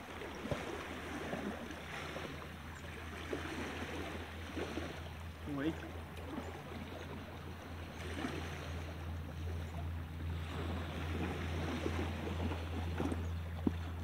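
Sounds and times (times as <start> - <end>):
faint splashes: 0.0 - 14.0
small waves lapping on rocks: 0.0 - 14.0
steady low hum: 0.1 - 14.0.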